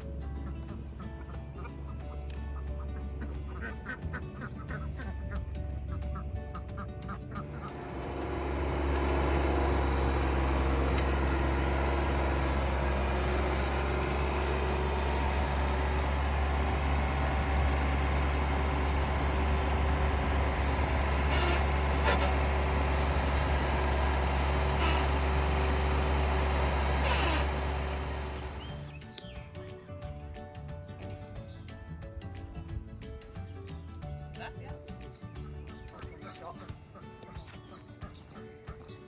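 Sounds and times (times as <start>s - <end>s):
vehicle engine rumbling: 0.0s - 36.1s.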